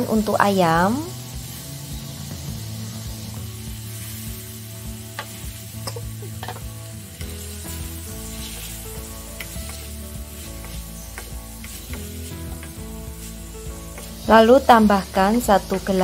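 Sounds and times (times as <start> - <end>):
background music: 0.0 - 16.0
chicken sizzling in oil: 0.0 - 16.0.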